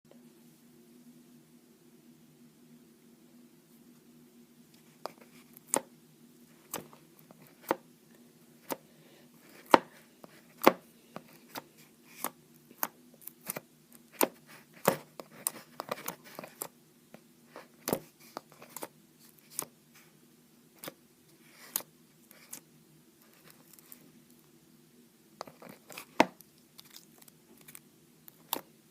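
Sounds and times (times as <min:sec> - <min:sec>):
faint low hum: 0:00.1 - 0:28.9.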